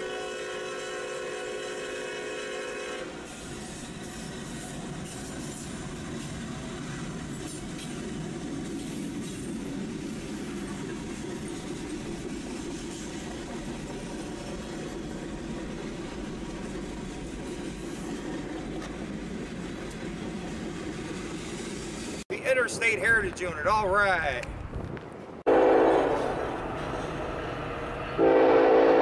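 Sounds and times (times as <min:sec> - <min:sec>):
railroad cars rumbling past: 0:00.0 - 0:29.0.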